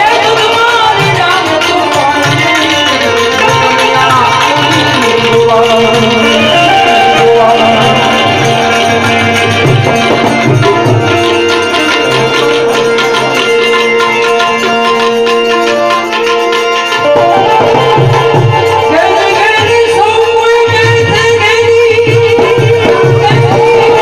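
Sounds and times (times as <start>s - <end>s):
harmonium holding notes: 0.0s - 24.0s
tabla rhythm: 0.0s - 24.0s.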